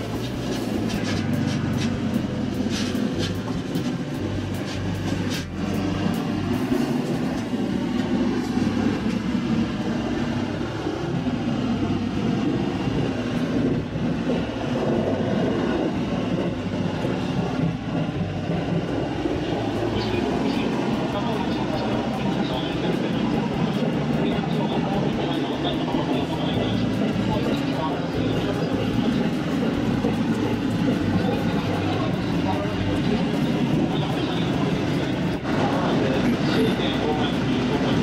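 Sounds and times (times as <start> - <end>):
train motor and wheel noise: 0.0 - 38.0.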